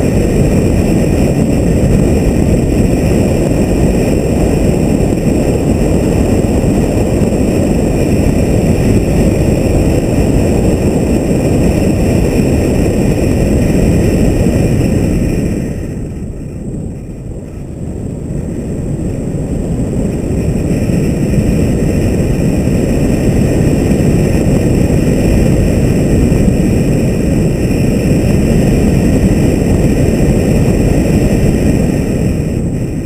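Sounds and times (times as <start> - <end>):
car road noise: 0.0 - 33.0
wind buffeting microphone: 0.0 - 33.0.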